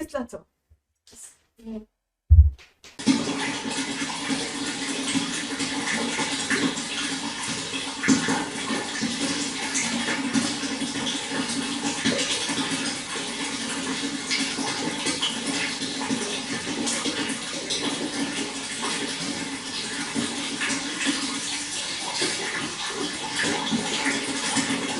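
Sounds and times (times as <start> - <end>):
running water splashing: 2.4 - 24.9.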